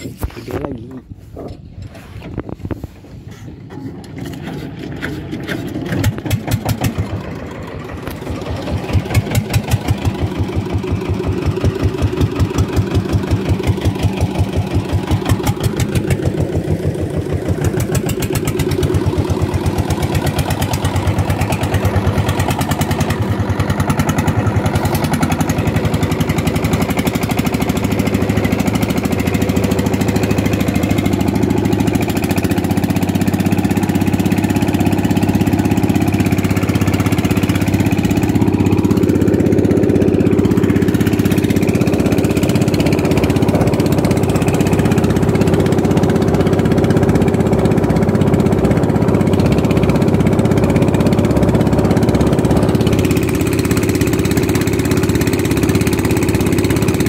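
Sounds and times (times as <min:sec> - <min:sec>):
boat diesel engine running: 0:00.0 - 0:57.0.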